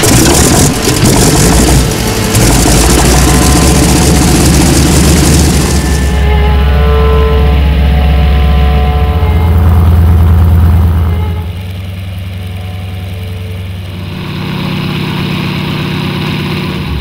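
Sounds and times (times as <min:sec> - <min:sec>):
airplane engine drone: 0:00.0 - 0:17.0.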